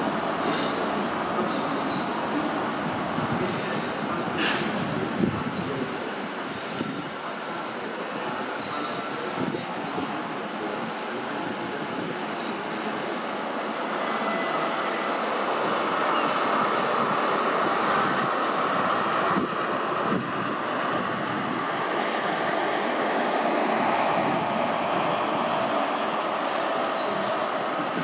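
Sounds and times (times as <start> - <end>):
train coaches rolling on rails: 0.0 - 28.0.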